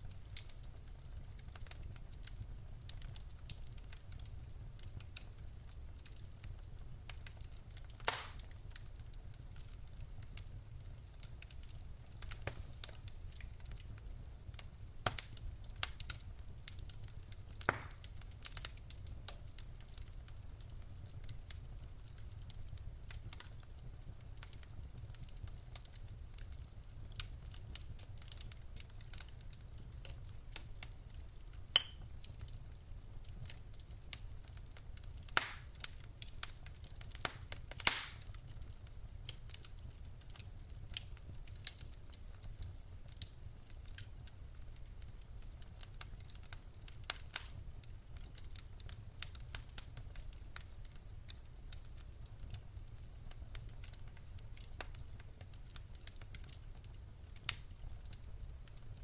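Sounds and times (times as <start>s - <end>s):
burning logs snapping and popping: 0.0s - 59.0s
low rumble of fire: 0.0s - 59.0s.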